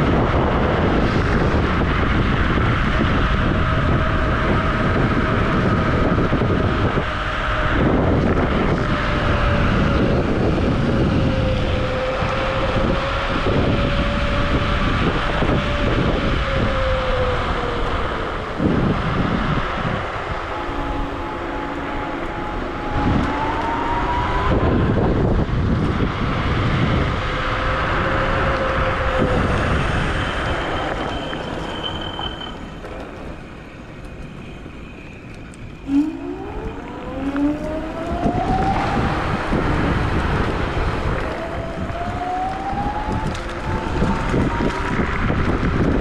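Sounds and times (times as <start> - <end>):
electric scooter motor whine: 0.0 - 46.0
wind noise on microphone: 0.0 - 46.0.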